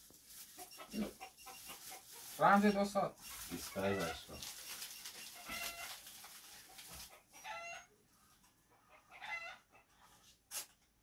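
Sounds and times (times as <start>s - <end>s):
chickens clucking: 0.4s - 10.2s.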